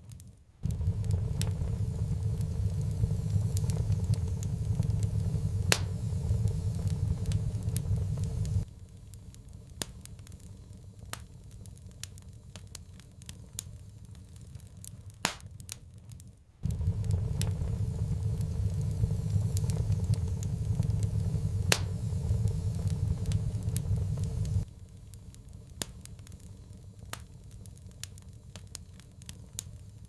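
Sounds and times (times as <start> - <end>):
wood fire crackling: 0.0 - 30.0
low roar of flames: 0.6 - 30.0.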